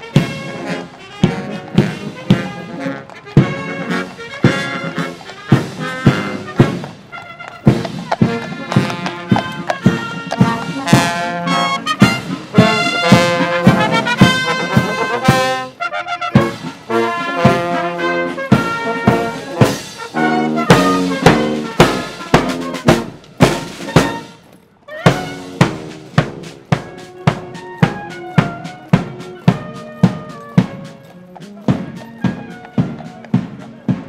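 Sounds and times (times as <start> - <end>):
marching band playing: 0.0 - 34.0
drum beats: 0.1 - 24.4, 25.0 - 34.0.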